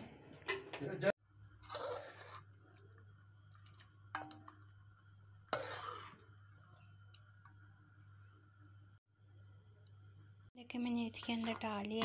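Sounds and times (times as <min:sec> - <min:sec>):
faint steady hum: 0:02.3 - 0:12.0.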